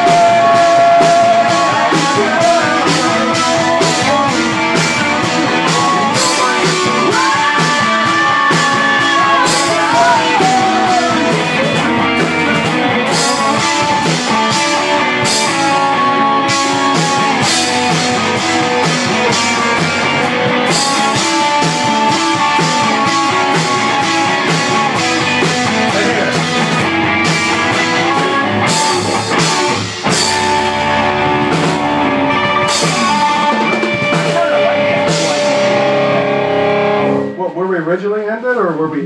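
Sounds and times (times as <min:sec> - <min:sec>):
rock band playing live: 0:00.0 - 0:37.6.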